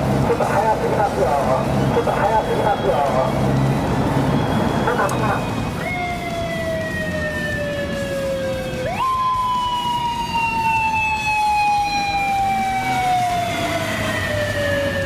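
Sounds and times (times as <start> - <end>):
police motorcycle siren wailing: 0.0 - 15.0.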